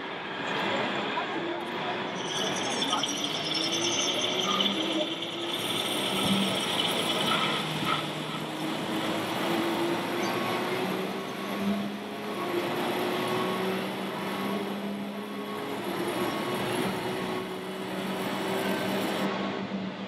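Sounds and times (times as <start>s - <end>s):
crowded hall background noise: 0.0s - 20.0s
model trucks engine drone: 0.0s - 20.0s.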